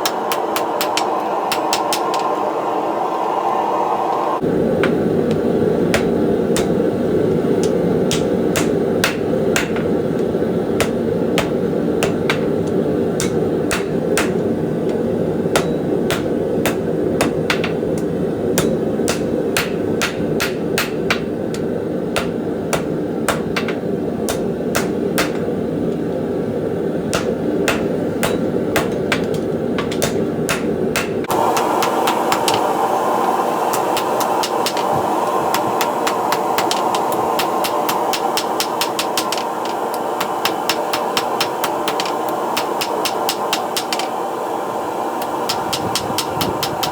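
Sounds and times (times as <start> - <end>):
hammer blows on anvil: 4.8 - 25.6, 27.1 - 44.2.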